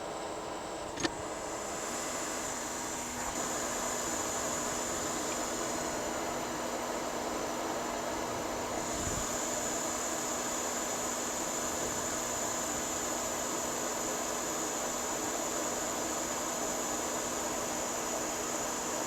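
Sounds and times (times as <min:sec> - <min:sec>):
hot air station hissing: 0:00.9 - 0:19.0.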